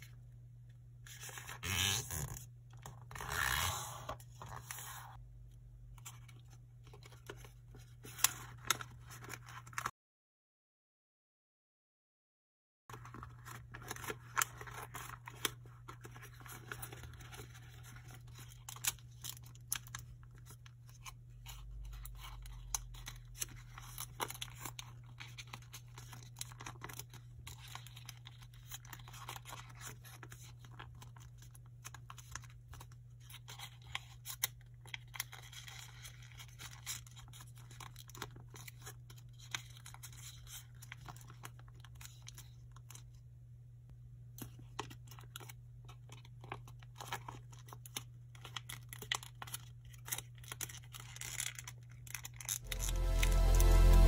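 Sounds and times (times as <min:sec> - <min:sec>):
paper rustling and crinkling: 0:06.0 - 0:09.9, 0:12.9 - 0:43.1, 0:44.4 - 0:54.0.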